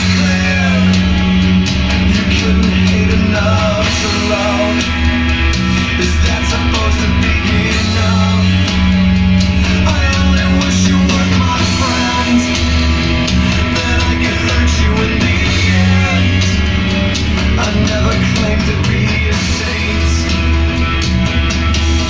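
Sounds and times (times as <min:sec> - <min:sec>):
rock music through speaker: 0:00.0 - 0:22.0.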